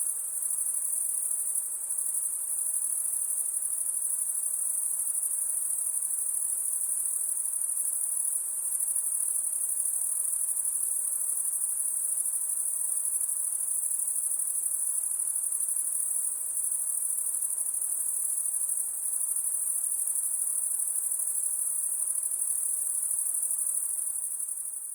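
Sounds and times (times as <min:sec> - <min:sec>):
crickets chirping: 0:00.0 - 0:24.9.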